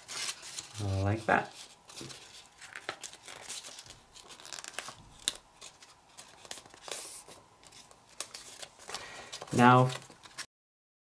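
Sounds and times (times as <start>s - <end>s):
paper crinkling and rustling: 0.0s - 10.5s.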